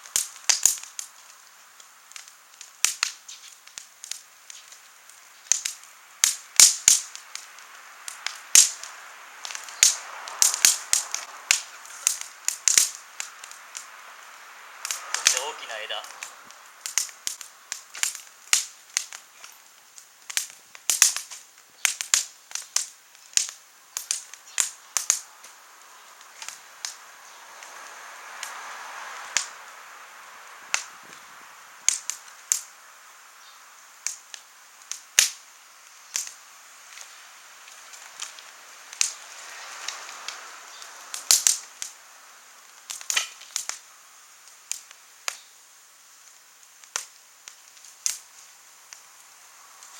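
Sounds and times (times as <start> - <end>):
soft hiss: 0.0 - 49.9
wood fire crackling and popping: 0.0 - 49.9.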